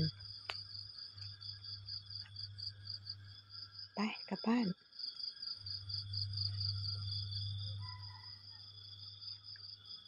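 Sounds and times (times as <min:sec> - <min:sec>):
steady low hum: 0:00.0 - 0:09.8
crickets trilling: 0:00.0 - 0:10.0
insect drone: 0:00.0 - 0:10.0.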